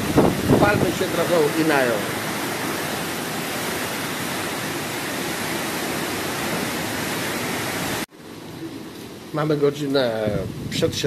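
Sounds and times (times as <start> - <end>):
heavy rain: 0.0 - 11.0
wind: 0.0 - 11.0.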